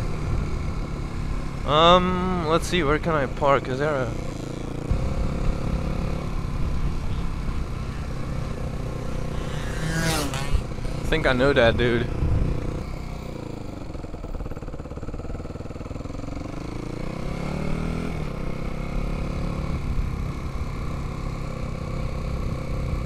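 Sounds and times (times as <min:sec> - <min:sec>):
dirt bike engine: 0:00.0 - 0:23.0.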